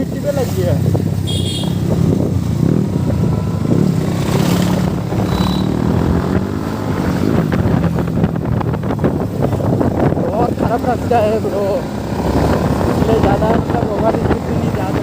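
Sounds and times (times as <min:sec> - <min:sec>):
motorcycle engine running: 0:00.0 - 0:15.0
wind noise on microphone: 0:00.8 - 0:11.2, 0:11.8 - 0:15.0.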